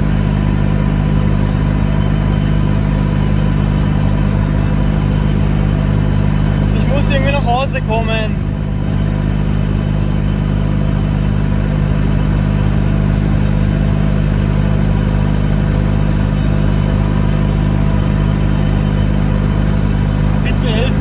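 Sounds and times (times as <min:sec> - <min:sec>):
small diesel car engine running: 0:00.0 - 0:21.0.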